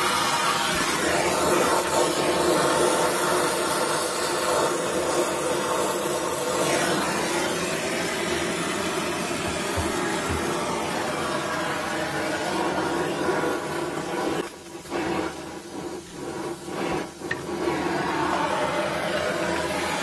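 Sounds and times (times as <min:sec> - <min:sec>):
gas torch flame hissing: 0:00.0 - 0:20.0.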